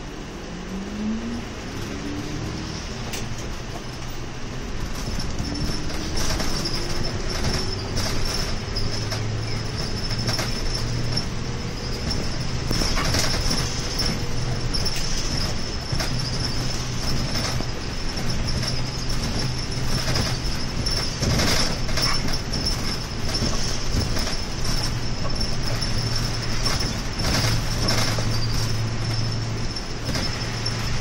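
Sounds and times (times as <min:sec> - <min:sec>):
bus engine hum: 0:00.0 - 0:31.0
road noise: 0:00.0 - 0:31.0
knocks and rattles: 0:01.8 - 0:31.0.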